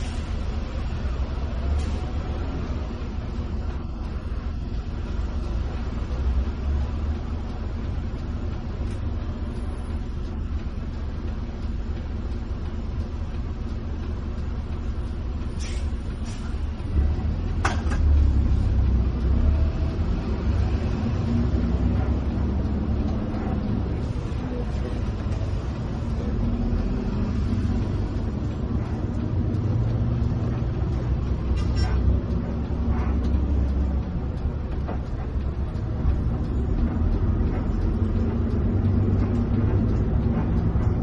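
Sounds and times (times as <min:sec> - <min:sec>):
engine and tyres rumbling: 0:00.0 - 0:41.0.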